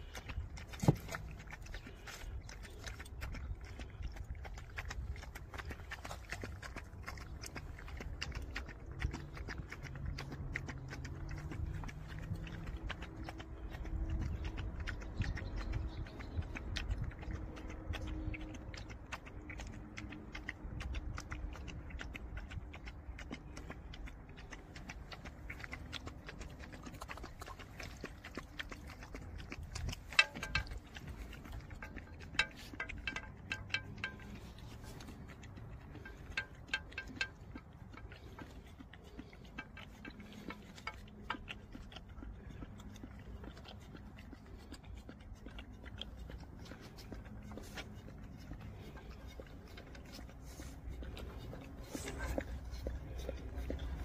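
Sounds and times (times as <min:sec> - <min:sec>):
dogs lapping milk from a metal pan: 0:00.0 - 0:54.0.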